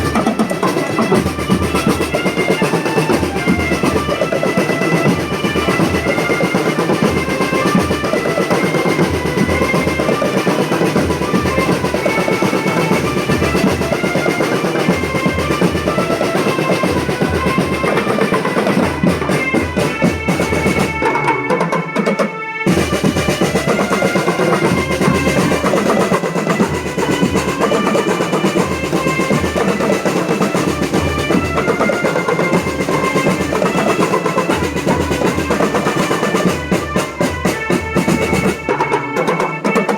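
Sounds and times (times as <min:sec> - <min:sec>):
snare drums: 0:00.0 - 0:39.9.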